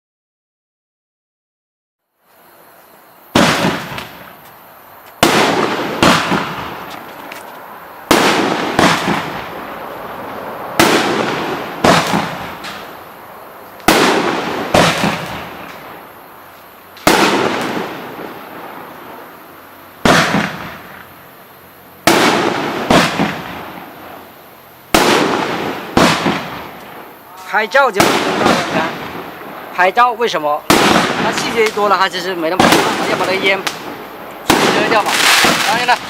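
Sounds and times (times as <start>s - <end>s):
fireworks crackle: 2.2s - 36.0s
fireworks hiss: 2.2s - 36.0s
fireworks bangs: 3.3s - 36.0s.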